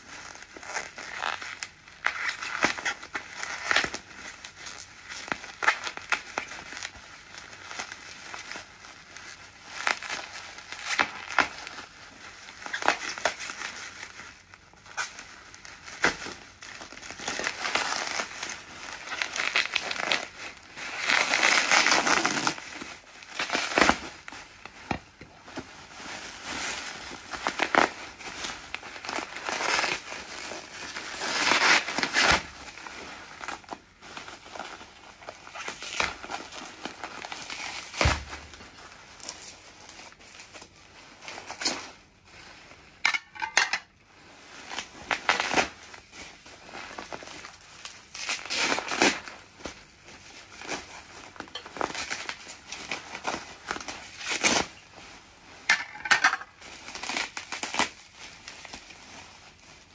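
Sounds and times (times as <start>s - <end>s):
bubble wrap crinkling: 0.0s - 59.9s.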